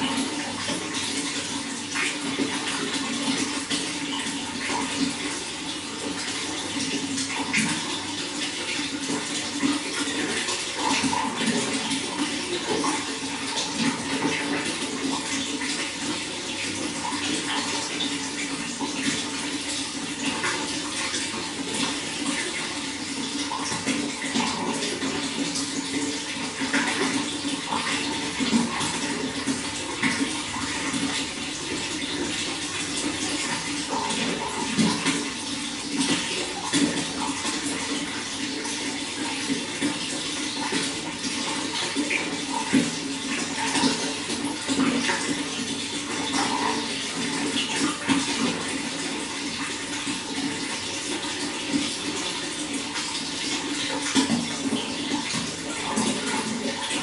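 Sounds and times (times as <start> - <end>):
running water splashing: 0.0 - 57.0.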